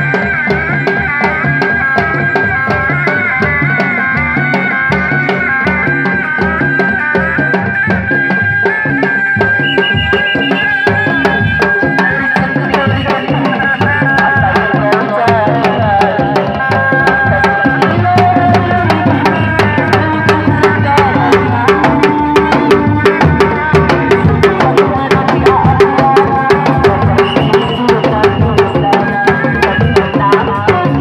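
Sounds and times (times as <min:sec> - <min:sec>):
barrel drum beaten by hand: 0:00.0 - 0:31.0
held melody line: 0:00.0 - 0:31.0.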